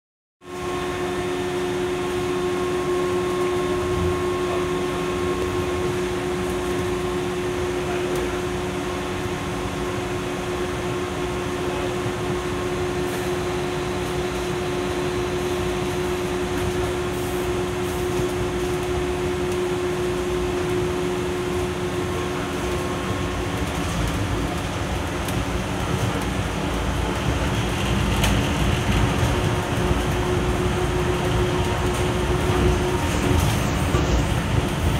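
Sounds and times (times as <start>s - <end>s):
train running rumble: 0.5s - 34.9s.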